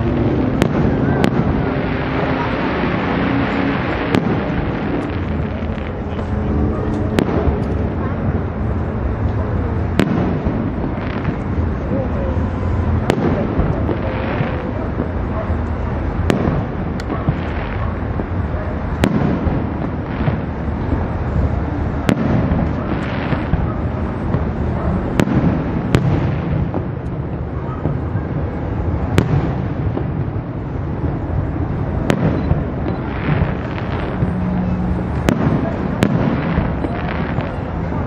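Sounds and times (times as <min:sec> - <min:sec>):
fireworks bursting with sharp cracks: 0:00.0 - 0:38.0.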